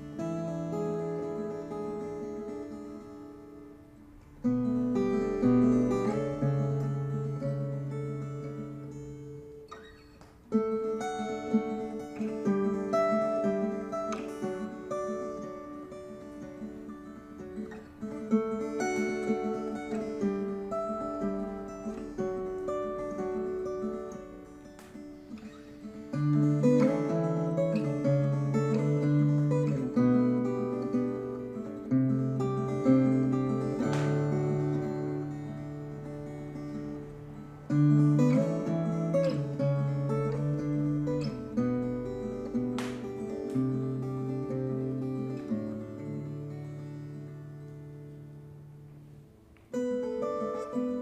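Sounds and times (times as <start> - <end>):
plucked guitar lullaby: 0.0 - 51.0.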